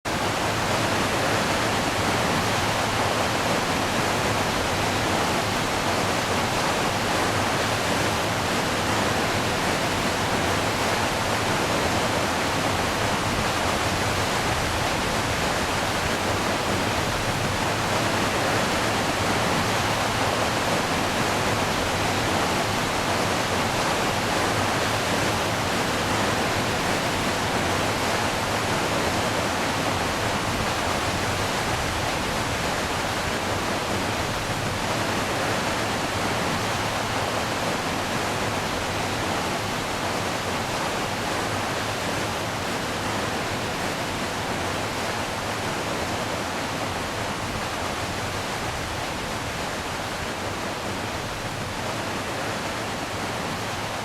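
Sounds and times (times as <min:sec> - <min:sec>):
waterfall rushing: 0:00.1 - 0:54.0.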